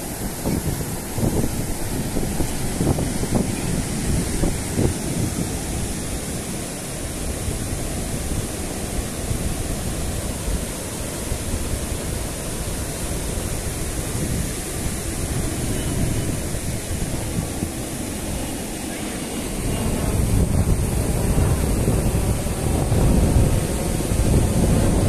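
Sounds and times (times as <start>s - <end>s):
surf breaking on a beach: 0.0s - 25.0s
wind rumbling on microphone: 0.0s - 25.0s.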